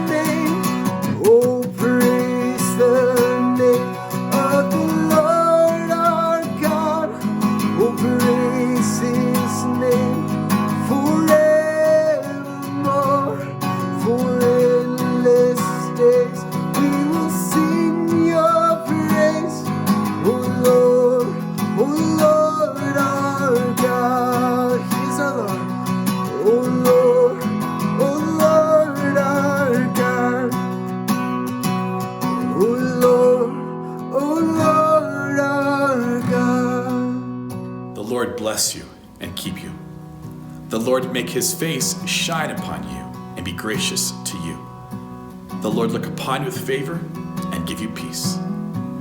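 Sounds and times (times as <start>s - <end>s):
strummed acoustic guitar: 0.0s - 49.0s.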